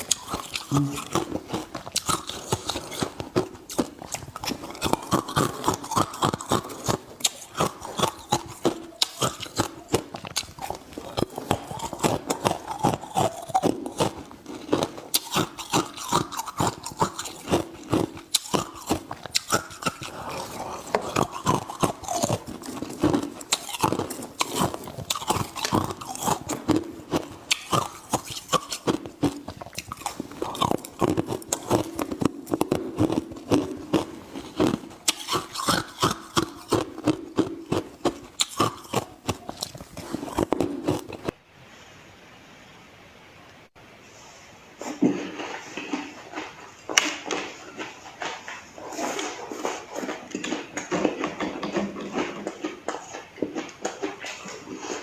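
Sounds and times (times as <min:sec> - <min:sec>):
person chewing ice: 0:00.0 - 0:41.4, 0:45.3 - 0:55.0.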